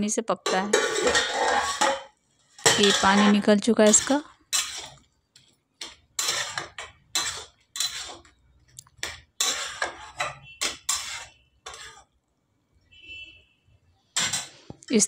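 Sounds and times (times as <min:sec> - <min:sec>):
spatula scraping a pan: 0:00.4 - 0:12.2, 0:14.0 - 0:14.8.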